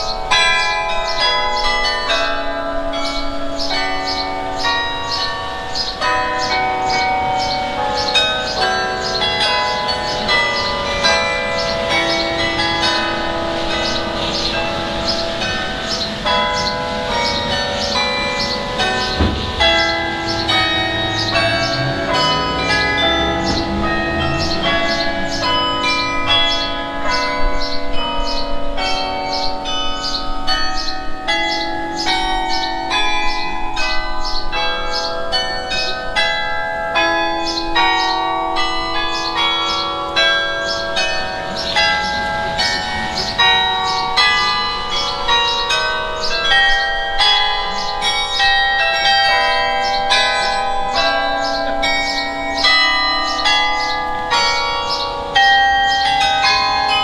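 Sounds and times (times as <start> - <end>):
carillon bells playing tune: 0.0 - 57.0.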